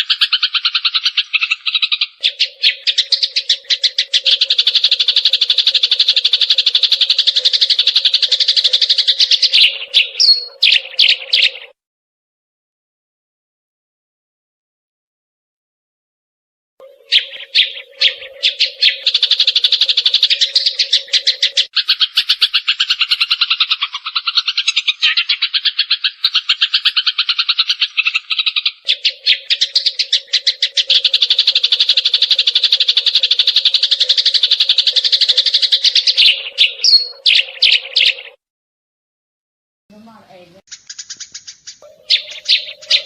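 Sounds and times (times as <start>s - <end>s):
sparrow chirping: 0.0s - 11.8s, 16.8s - 38.4s, 40.0s - 43.0s.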